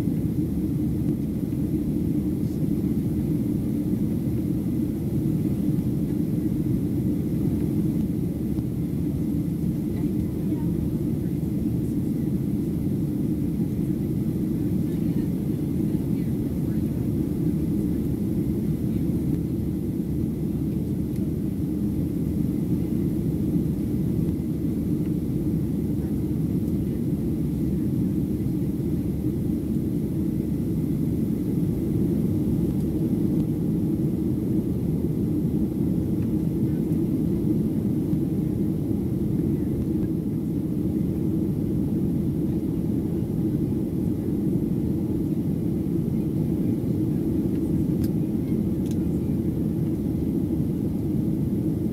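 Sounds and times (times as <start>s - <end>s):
airplane cabin engine roar: 0.0s - 51.9s.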